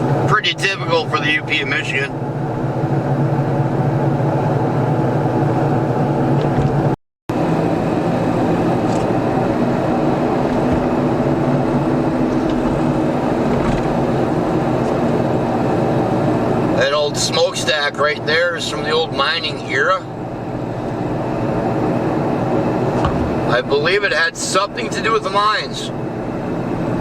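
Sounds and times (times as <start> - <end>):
car engine and tyre drone: 0.0 - 27.0.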